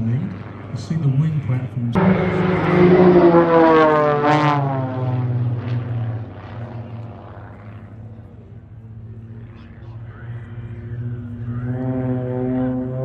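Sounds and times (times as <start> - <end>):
low steady engine hum: 0.0 - 13.0
model aircraft flying past: 0.0 - 13.0.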